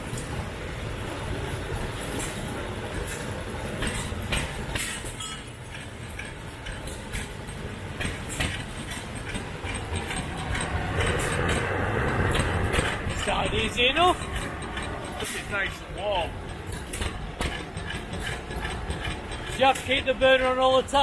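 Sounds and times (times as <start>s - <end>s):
sharp engine clicks: 2.2s - 21.0s
oil engine chugging: 2.6s - 21.0s.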